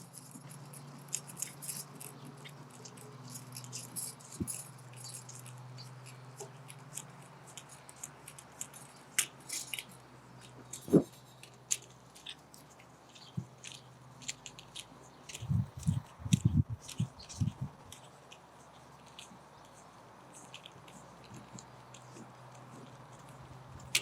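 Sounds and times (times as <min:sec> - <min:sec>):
metal clamp clicks and scrapes: 0:00.0 - 0:19.8, 0:20.4 - 0:24.0.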